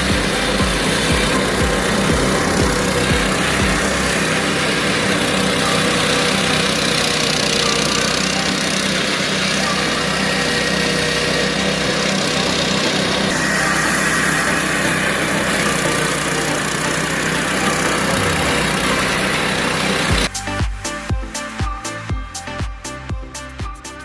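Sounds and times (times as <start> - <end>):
brush chopper engine running: 0.0 - 20.5
music with a strong beat: 0.0 - 24.0.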